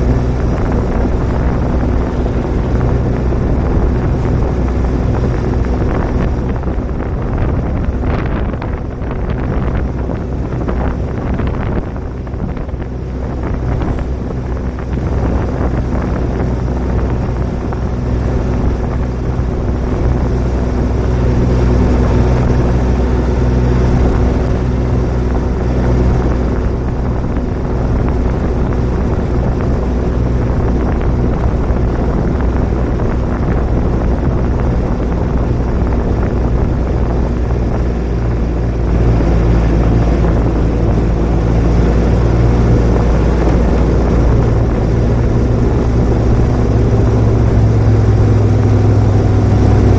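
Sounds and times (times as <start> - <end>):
utility vehicle engine running: 0.0 - 49.9.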